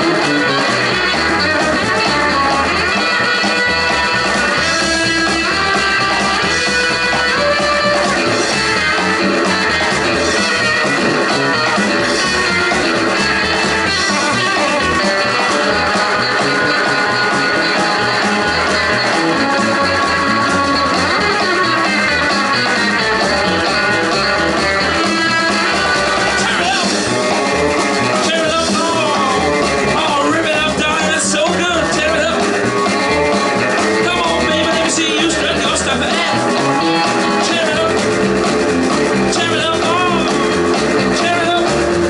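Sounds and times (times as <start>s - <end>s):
electric guitar: 0.0s - 42.0s
rockabilly band playing live: 0.0s - 42.0s.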